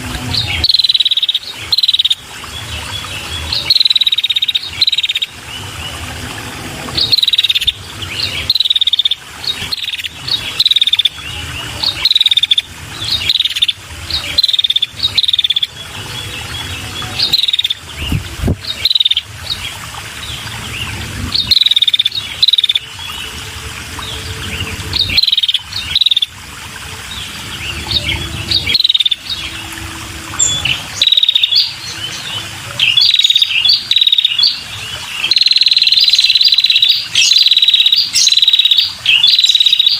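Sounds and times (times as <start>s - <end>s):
bird chirping: 0.3s - 5.9s, 7.0s - 23.3s, 24.0s - 26.3s, 27.0s - 39.9s.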